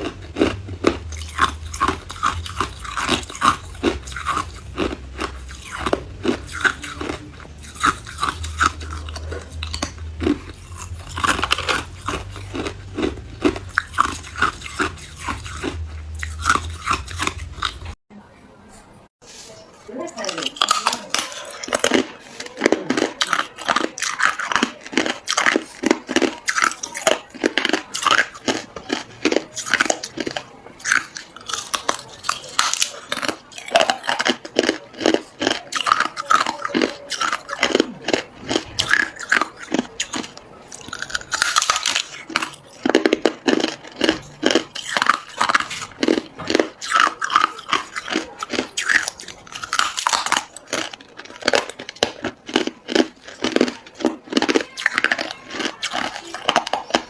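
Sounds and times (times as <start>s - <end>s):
person crunching ice: 0.0s - 18.0s, 20.1s - 57.0s.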